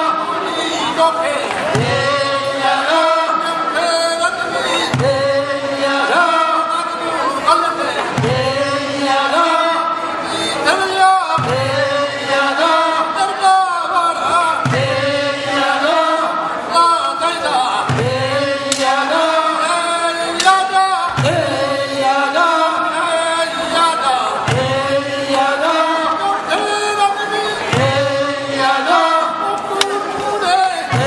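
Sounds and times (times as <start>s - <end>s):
men singing a work song: 0.0s - 31.0s.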